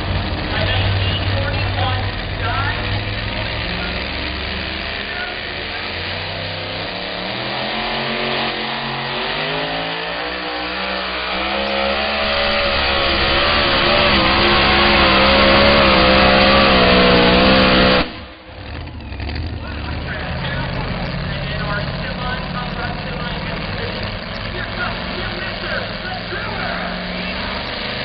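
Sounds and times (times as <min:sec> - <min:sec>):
supercharged engine at full throttle: 0:00.0 - 0:28.0.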